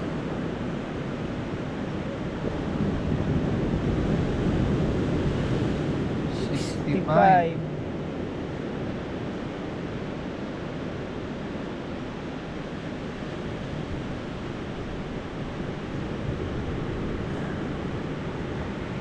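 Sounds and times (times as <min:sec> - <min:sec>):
sea surf washing on shore: 0:00.0 - 0:19.0
wind on microphone: 0:00.0 - 0:19.0.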